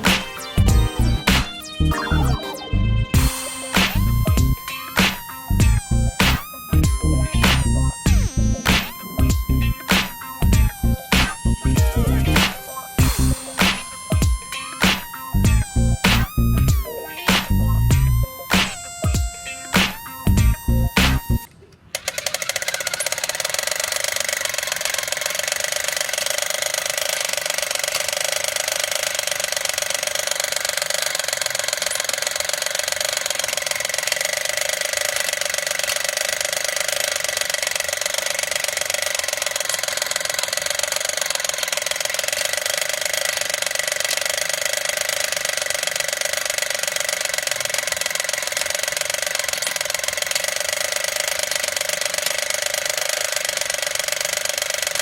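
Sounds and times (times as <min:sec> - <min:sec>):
fine rapid clicking: 0:00.0 - 0:55.0
toy motor and gears whirring: 0:00.0 - 0:55.0.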